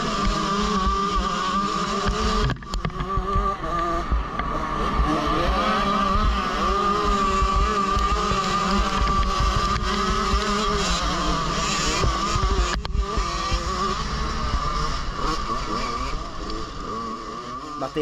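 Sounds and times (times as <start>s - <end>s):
motocross bike engine revving high: 0.0s - 18.0s.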